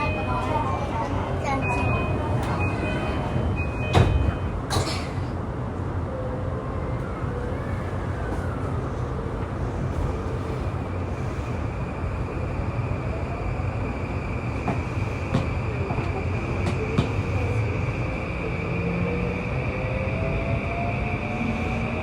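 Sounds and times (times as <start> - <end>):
train wheels rumbling on rail: 0.0 - 6.0, 7.0 - 22.0.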